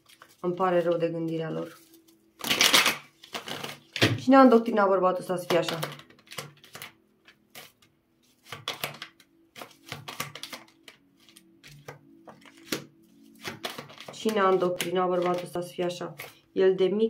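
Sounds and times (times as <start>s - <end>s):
cards being shuffled: 0.0s - 4.2s, 5.4s - 16.4s.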